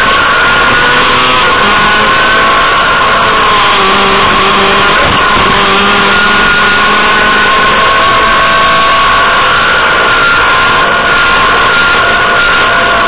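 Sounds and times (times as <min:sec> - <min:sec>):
rally car engine revving hard: 0:00.0 - 0:13.0.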